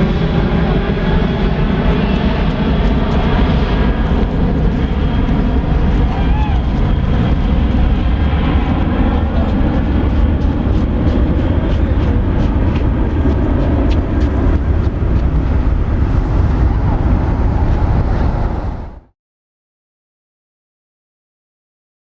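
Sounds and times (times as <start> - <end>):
jet engines rumbling: 0.0 - 19.1.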